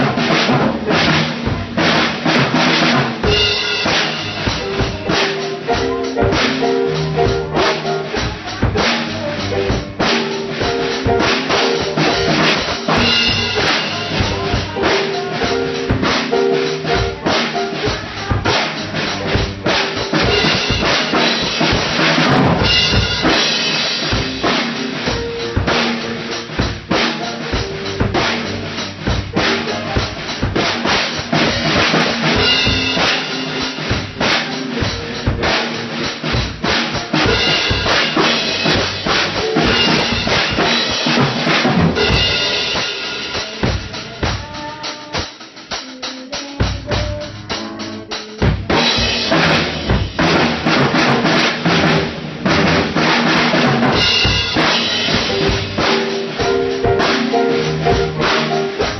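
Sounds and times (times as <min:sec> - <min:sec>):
band playing jazzy pop: 0:00.0 - 0:58.9
drum kit: 0:00.0 - 0:58.9.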